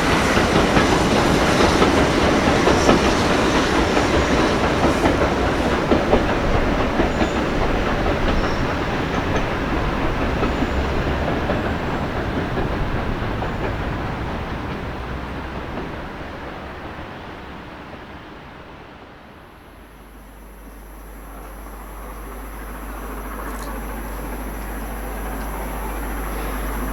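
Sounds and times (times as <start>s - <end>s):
train wheels clattering over rails: 0.0s - 26.9s.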